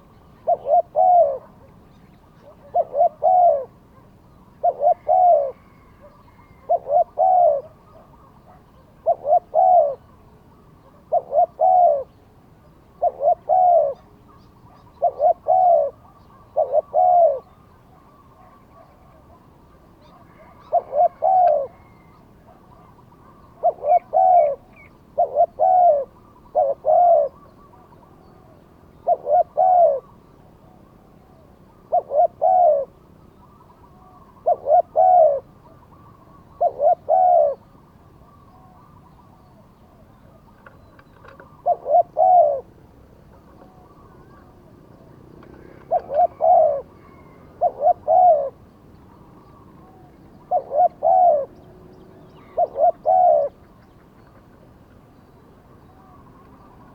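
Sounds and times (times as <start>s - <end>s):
dove cooing: 0.0s - 55.1s.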